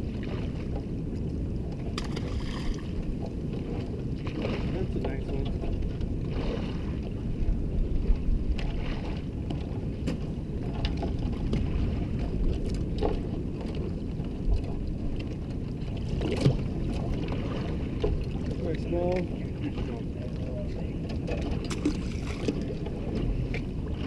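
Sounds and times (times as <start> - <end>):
wind and water rumble: 0.0 - 24.0.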